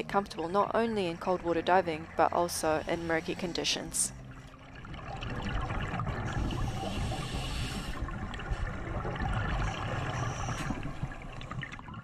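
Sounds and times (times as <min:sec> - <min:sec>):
underwater bubbles gurgling: 0:00.0 - 0:12.0.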